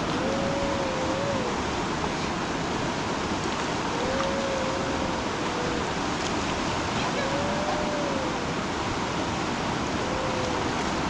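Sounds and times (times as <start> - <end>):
flooded river rushing: 0.0 - 11.0.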